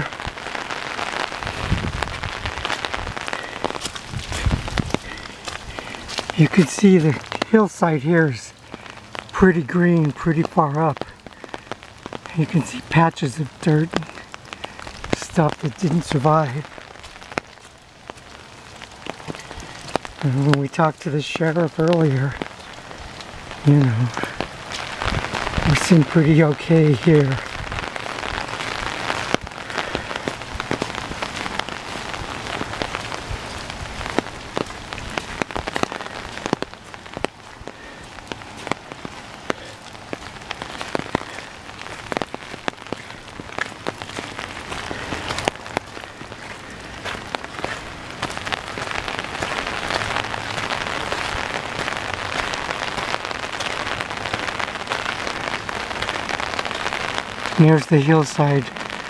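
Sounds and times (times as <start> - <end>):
rain falling: 0.0 - 59.0
raindrops ticking close by: 0.0 - 59.0.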